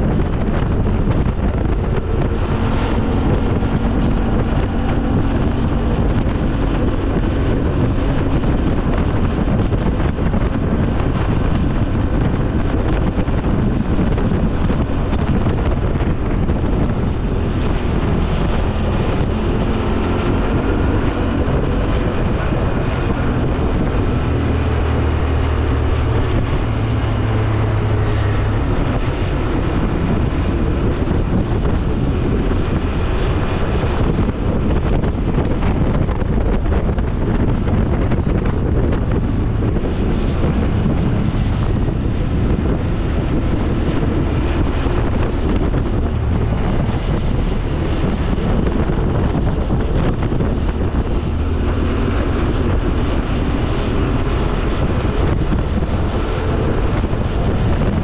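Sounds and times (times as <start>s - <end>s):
quad bike engine running: 0.0s - 58.0s
wind buffeting microphone: 0.0s - 58.0s.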